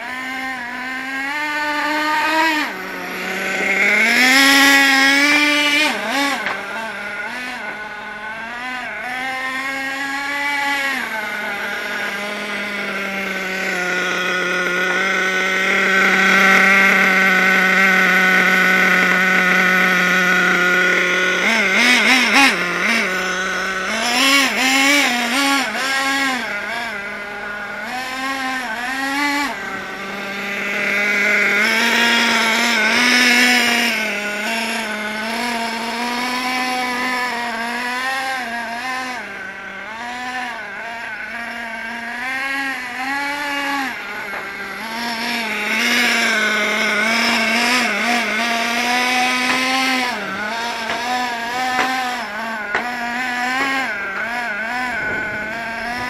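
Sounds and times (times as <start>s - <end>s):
small nitro engine revving: 0.0s - 56.0s.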